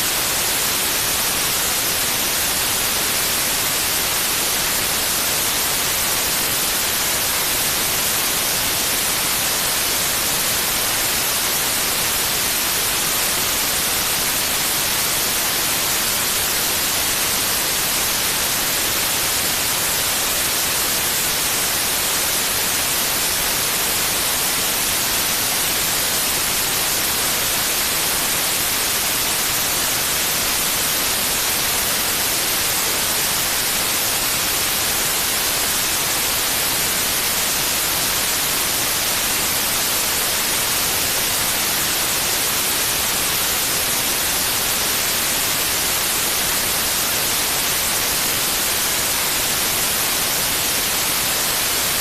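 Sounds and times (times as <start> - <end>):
steady white noise: 0.0 - 52.0.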